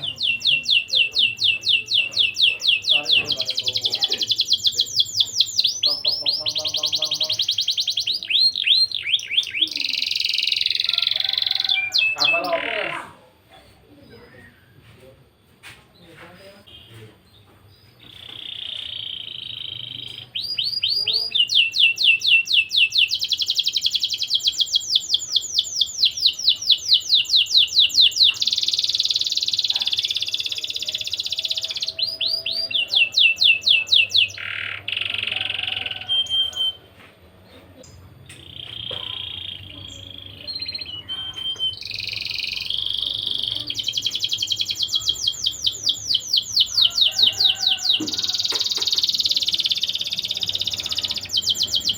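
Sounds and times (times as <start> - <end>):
canary singing trills: 0.0 - 13.2, 16.4 - 51.9.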